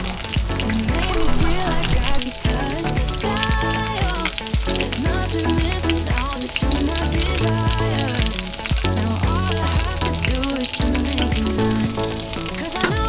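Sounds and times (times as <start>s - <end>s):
background music with bass line: 0.0s - 13.0s.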